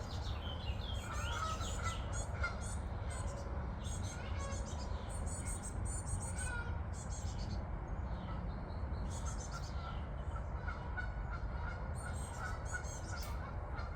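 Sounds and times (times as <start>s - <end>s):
birds chattering: 0.0s - 13.9s.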